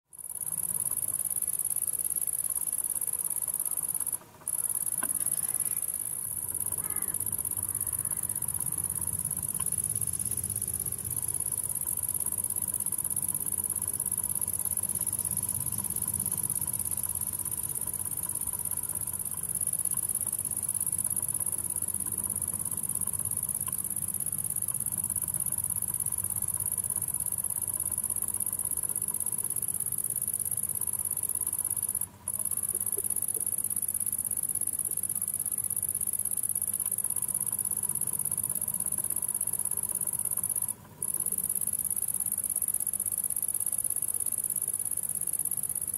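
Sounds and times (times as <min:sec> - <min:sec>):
insects buzzing: 0:00.1 - 0:45.9.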